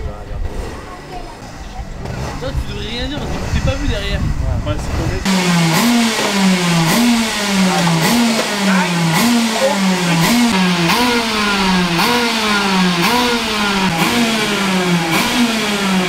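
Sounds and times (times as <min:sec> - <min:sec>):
kart engine revving: 0:00.0 - 0:16.0.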